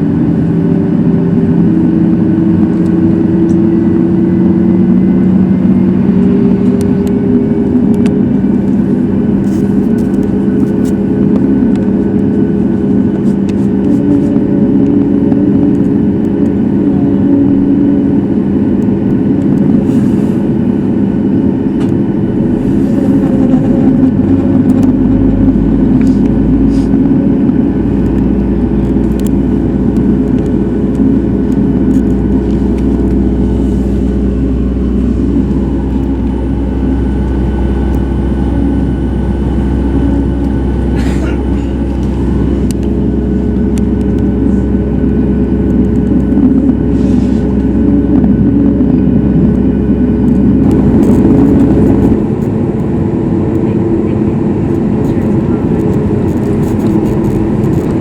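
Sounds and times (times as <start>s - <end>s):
deep rumble: 0.0s - 58.0s
jet engines in aircraft cabin: 0.0s - 58.0s.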